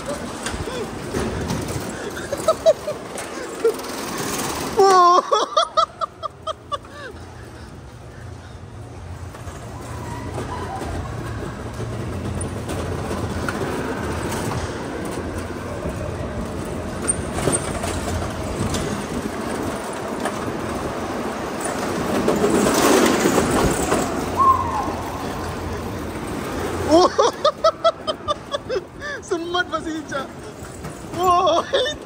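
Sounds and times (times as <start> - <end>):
go-kart wheels rumbling on concrete: 0.0 - 32.0.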